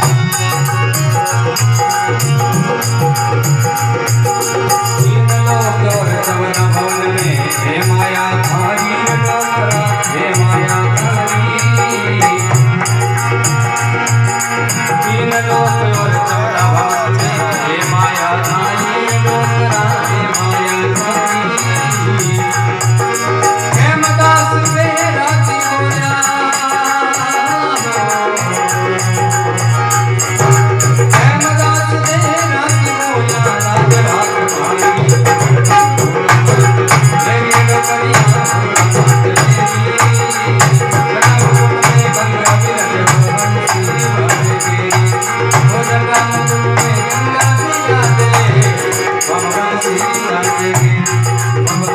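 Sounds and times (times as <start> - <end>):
fast rattling percussion: 0.0 - 51.9.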